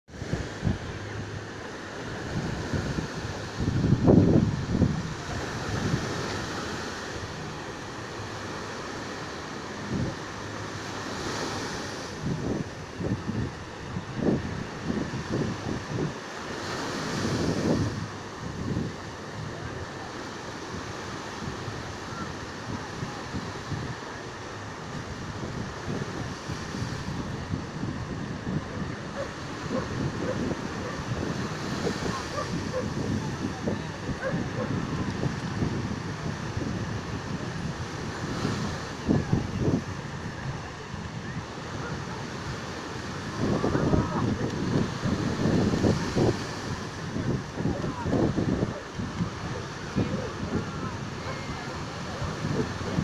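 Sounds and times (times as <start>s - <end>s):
sea surf washing on beach: 0.1s - 53.0s
wind on microphone: 0.1s - 53.0s.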